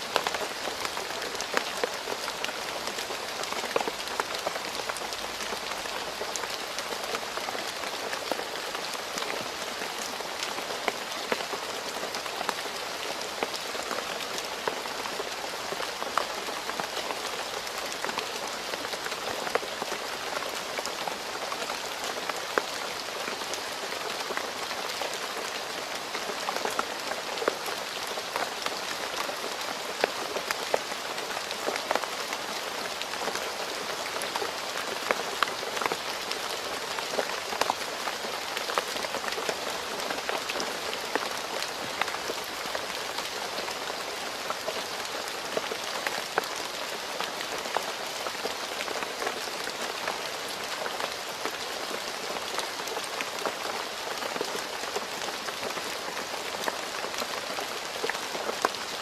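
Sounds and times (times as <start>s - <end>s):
rain falling on a road: 0.0s - 59.0s.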